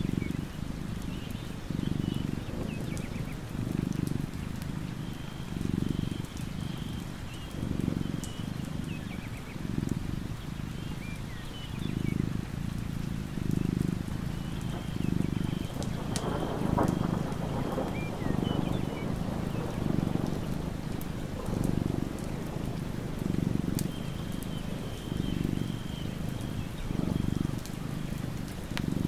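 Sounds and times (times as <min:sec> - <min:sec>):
faint bird chirps: 0:00.0 - 0:20.0, 0:23.3 - 0:28.2
cat purring: 0:00.0 - 0:29.0.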